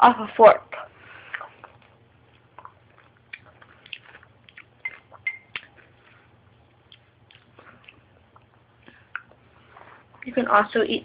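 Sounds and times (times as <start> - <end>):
person chewing crunchily: 1.1 - 10.3.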